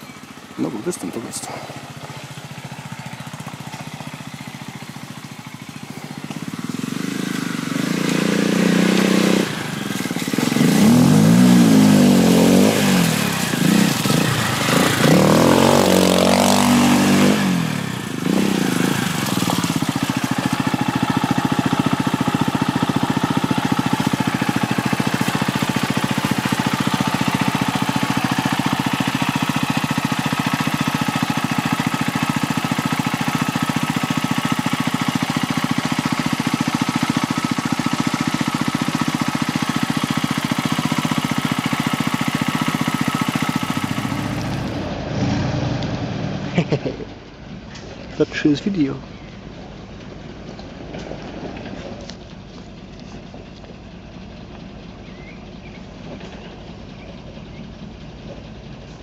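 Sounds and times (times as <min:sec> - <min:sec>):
quad bike engine revving and idling: 0:00.0 - 0:59.0.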